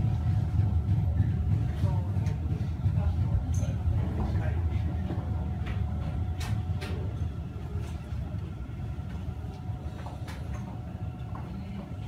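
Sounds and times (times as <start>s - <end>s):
train car rumbling on rails: 0.0s - 12.0s.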